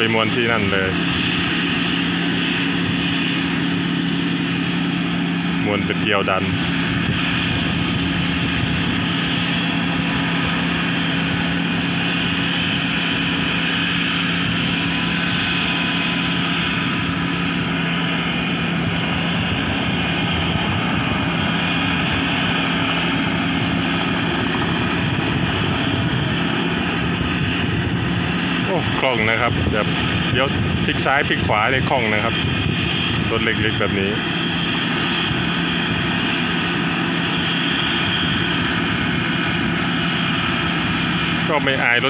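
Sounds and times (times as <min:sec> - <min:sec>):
combine harvester engine droning: 0:00.0 - 0:42.0.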